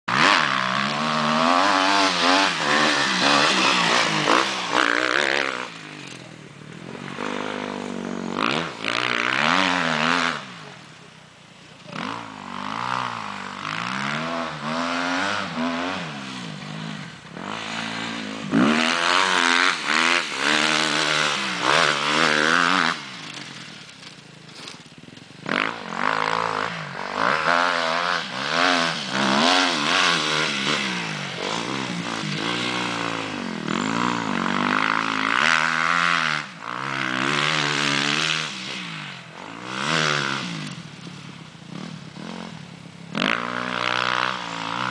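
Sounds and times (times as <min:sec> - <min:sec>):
dirt bike engine revving: 0:00.1 - 0:44.9.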